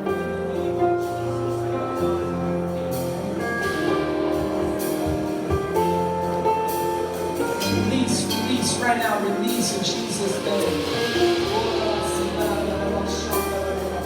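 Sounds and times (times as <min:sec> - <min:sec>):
instrumental music: 0:00.0 - 0:14.0.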